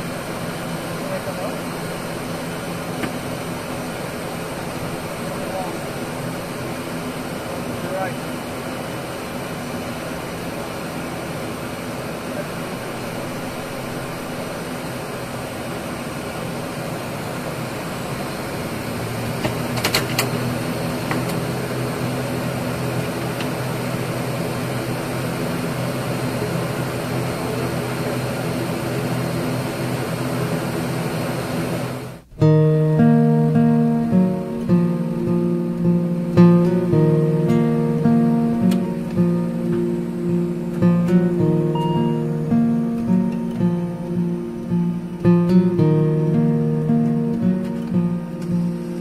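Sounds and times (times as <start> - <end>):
turboprop engines droning: 0.0 - 49.0.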